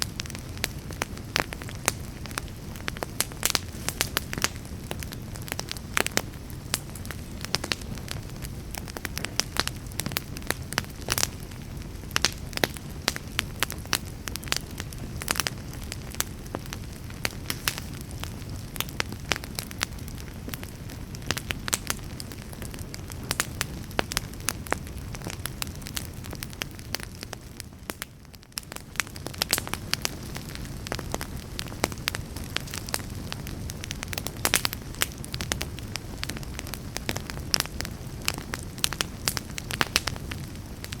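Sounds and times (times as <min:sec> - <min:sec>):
fire crackling and popping: 0:00.0 - 0:41.0
wood fire burning: 0:00.0 - 0:41.0.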